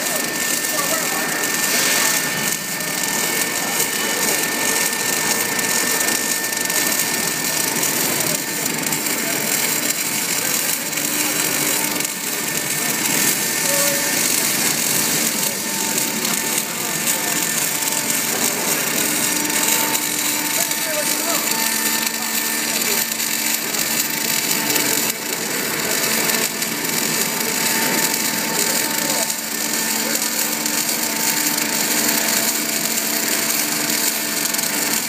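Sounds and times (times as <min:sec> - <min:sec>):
welding arc crackling and sizzling: 0:00.0 - 0:35.0.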